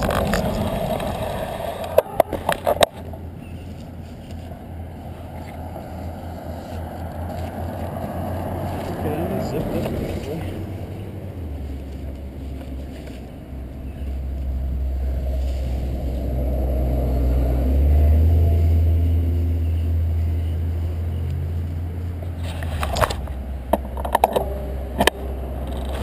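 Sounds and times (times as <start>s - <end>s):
vehicle passing rumble: 0.0s - 26.0s.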